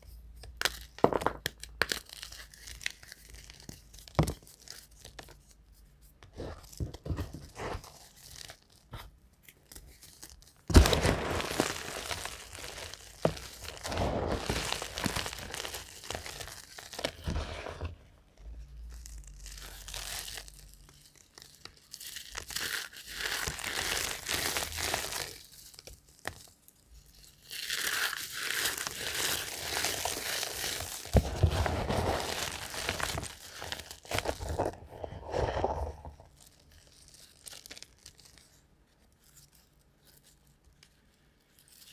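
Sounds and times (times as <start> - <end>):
chalk crumbling between hands: 0.0 - 41.9.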